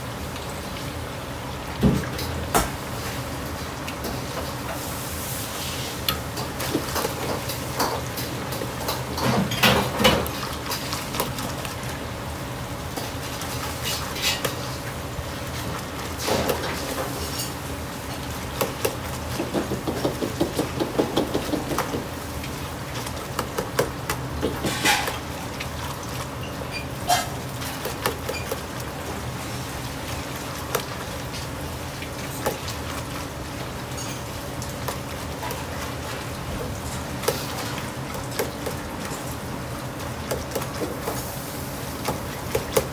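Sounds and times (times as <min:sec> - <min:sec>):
steady kitchen hum: 0:00.0 - 0:42.9.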